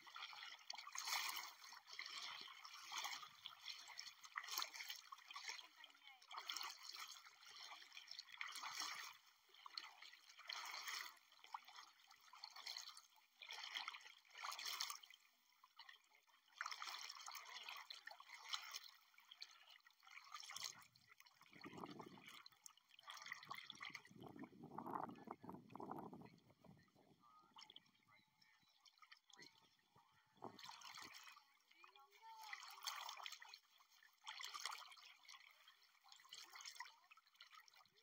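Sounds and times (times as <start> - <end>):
water splashing and trickling: 0.0 - 38.0.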